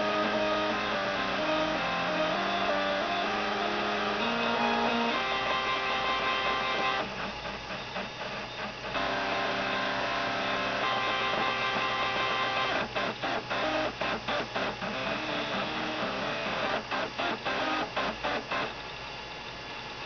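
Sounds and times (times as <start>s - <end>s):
stepper motors playing a tune: 0.0s - 7.2s, 9.0s - 18.8s.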